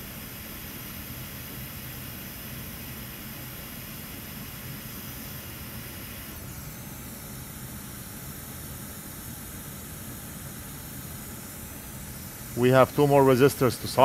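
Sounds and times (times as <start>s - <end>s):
faint thin high whine: 0.0s - 14.0s
steady air hiss: 0.0s - 14.0s.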